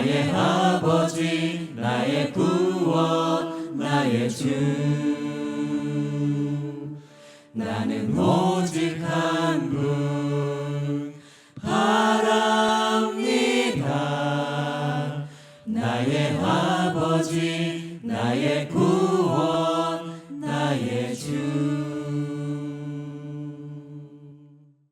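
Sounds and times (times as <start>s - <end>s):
group singing worship song: 0.0s - 24.5s.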